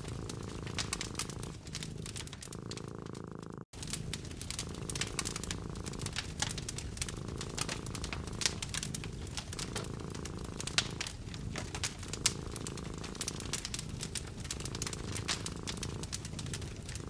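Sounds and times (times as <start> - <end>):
cat purring: 0.0 - 17.0
wood fire crackling and popping: 0.0 - 17.0.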